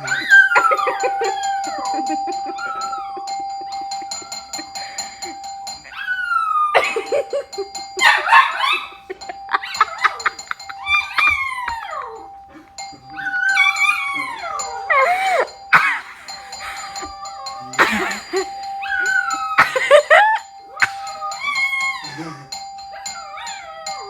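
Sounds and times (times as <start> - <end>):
dog howling and yelping: 0.0 - 24.0
electronic doorbell chime: 0.0 - 24.0.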